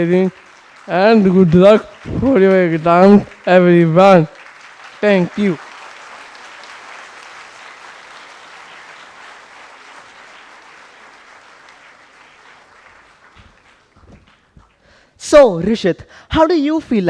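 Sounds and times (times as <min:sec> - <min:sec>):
audience clapping: 0:00.0 - 0:15.1.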